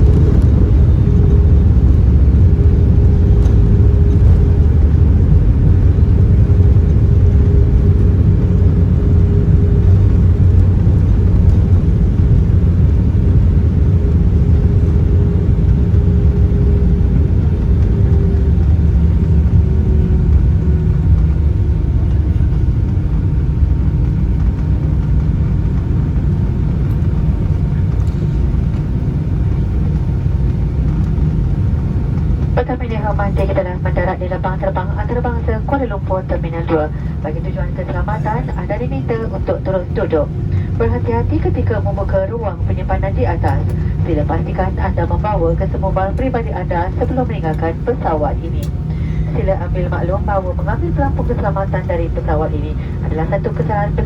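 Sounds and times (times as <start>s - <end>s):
faint engine tone: 0.0s - 54.0s
low rumble of aircraft engines: 0.0s - 54.0s.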